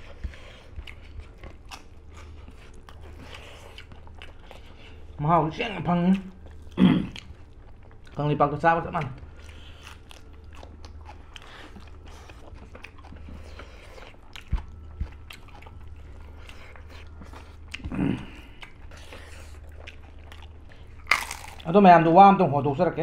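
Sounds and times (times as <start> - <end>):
chewing and crunching: 0.0 - 22.2
steady low hum: 0.0 - 23.0.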